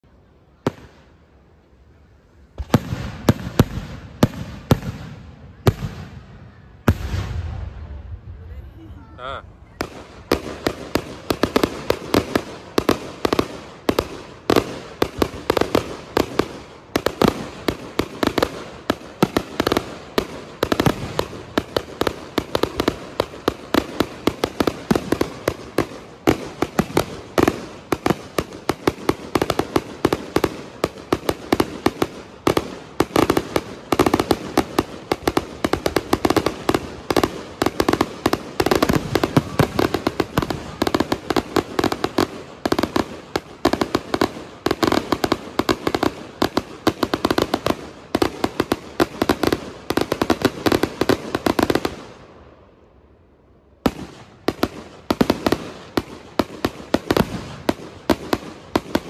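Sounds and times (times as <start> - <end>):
fireworks popping and banging: 2.6 - 6.2, 9.7 - 52.1, 53.8 - 59.0.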